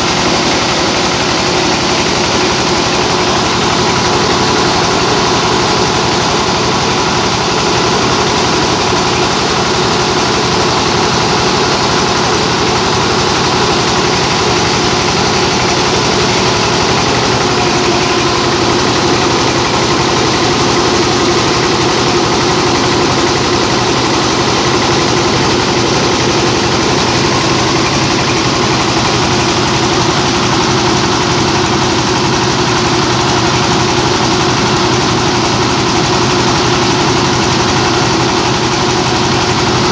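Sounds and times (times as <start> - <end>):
rice mill machine humming: 0.0 - 39.9.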